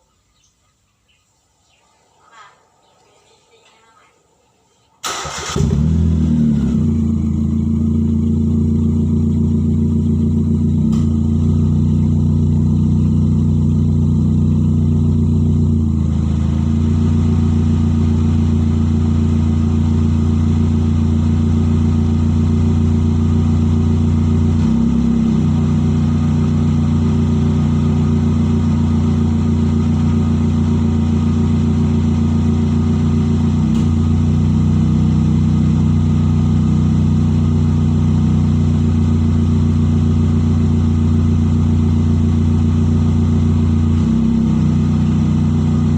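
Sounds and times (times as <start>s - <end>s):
car engine idling: 5.0s - 45.9s.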